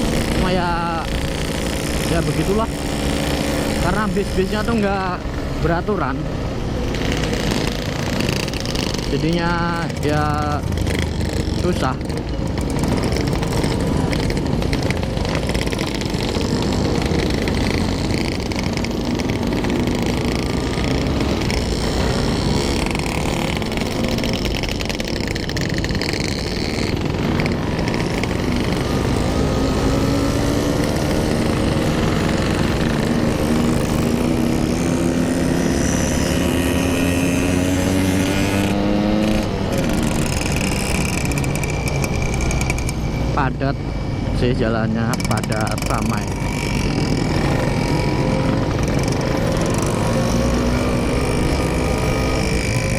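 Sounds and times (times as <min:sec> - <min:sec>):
motorcycle engine running: 0:00.0 - 0:52.9
road noise: 0:00.0 - 0:52.9.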